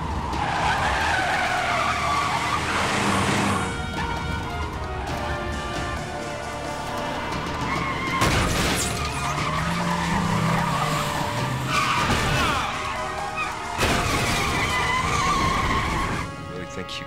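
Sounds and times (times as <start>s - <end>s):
tyres squealing: 0.3s - 5.8s, 7.2s - 16.4s.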